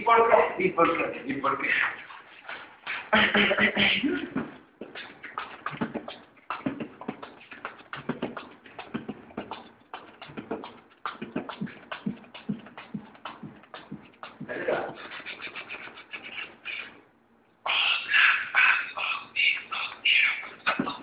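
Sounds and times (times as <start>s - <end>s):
man beatboxing: 0.0s - 17.0s, 17.6s - 21.0s.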